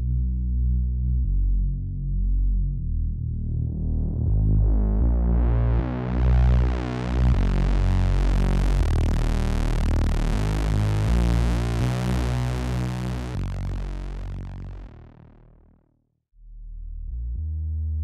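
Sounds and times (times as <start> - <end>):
deep synthesizer bass notes: 0.0 - 18.0.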